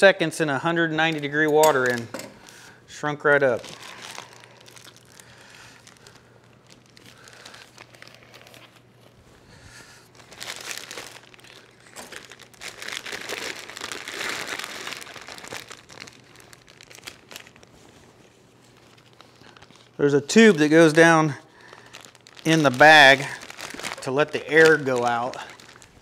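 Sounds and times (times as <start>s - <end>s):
plastic bags crinkling: 0.8s - 26.0s.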